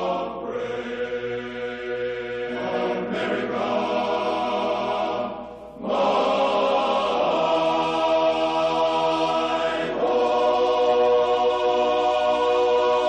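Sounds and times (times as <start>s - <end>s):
choir-like music chords: 0.0s - 13.0s.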